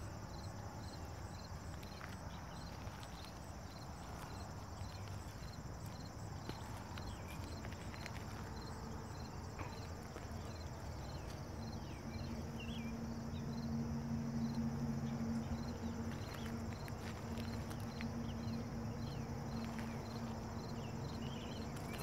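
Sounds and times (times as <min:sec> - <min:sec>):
distant diesel train drone: 0:00.0 - 0:22.0
insects chirping: 0:00.0 - 0:22.0.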